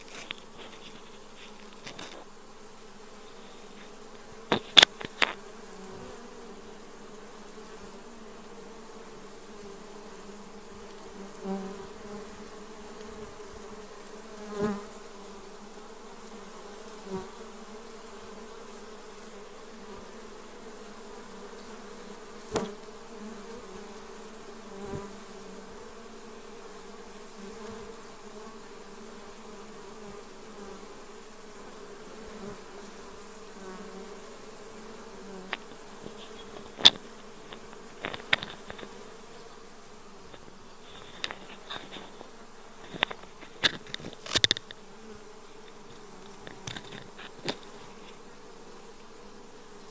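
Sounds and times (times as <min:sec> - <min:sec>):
bee buzzing past close: 0:00.0 - 0:49.9
bees buzzing: 0:00.0 - 0:49.9.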